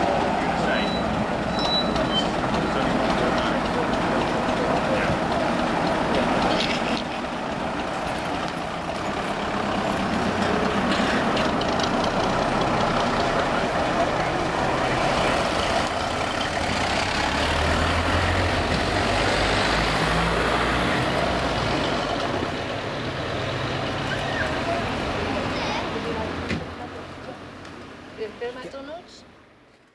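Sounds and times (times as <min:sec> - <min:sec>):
diesel bus engine driving past: 0:00.0 - 0:28.2.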